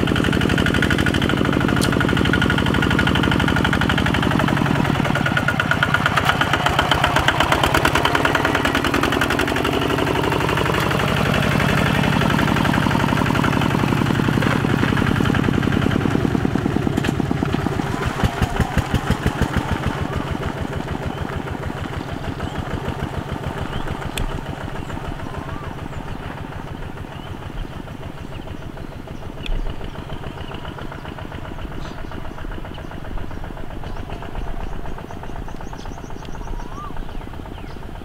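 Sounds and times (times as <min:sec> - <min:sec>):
diesel engine chugging: 0:00.0 - 0:38.0.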